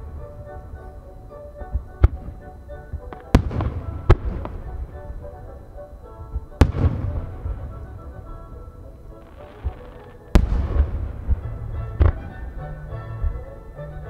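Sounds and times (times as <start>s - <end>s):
firework shells bursting: 0.0s - 13.9s
music: 0.0s - 14.0s.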